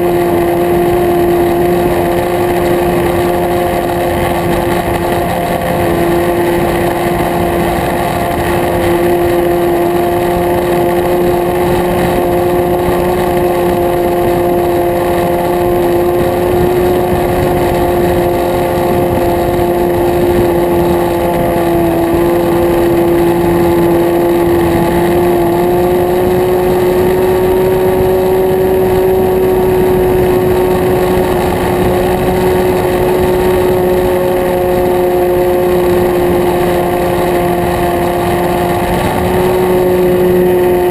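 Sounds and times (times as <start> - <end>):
model plane engine buzzing: 0.0 - 40.9
wind rush: 0.0 - 40.9.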